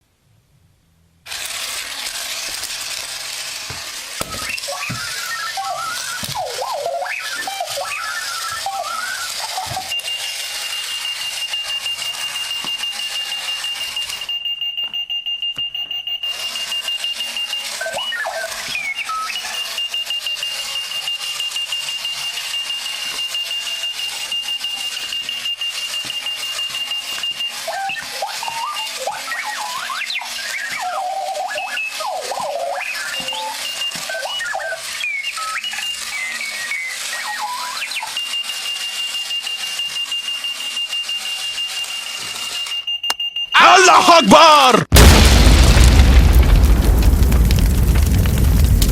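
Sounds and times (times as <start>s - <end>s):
alarm clock chirping bleeps: 4.8s - 44.3s.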